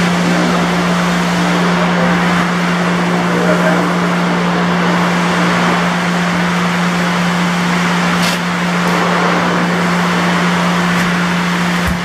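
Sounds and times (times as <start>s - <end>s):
mechanical drone: 0.0s - 12.0s.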